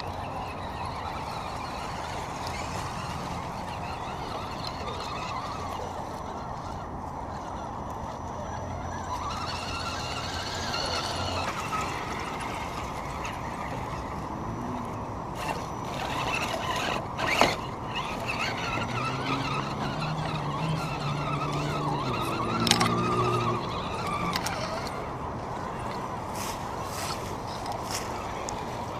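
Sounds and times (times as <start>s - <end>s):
electric motors whining: 0.0s - 28.9s.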